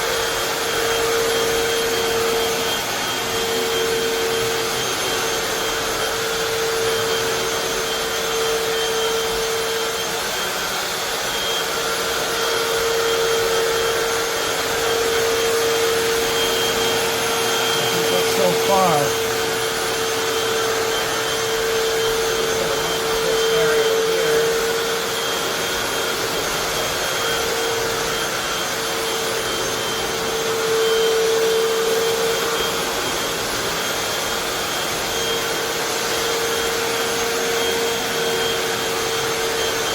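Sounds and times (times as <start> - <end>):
rushing suction noise: 0.0 - 34.1
floor cleaner motor running: 0.0 - 39.9.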